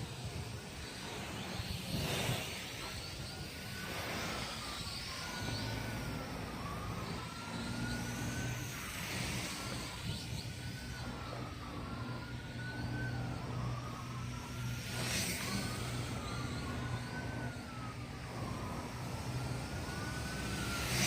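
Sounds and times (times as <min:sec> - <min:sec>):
drone motors whining: 0:00.0 - 0:21.0
wind rushing over microphone: 0:00.0 - 0:21.0.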